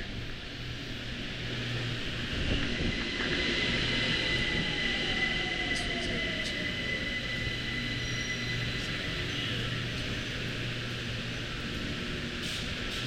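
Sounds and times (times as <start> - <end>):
electric train wheel-on-rail hiss: 0.0 - 13.0
train high whine: 0.0 - 13.0.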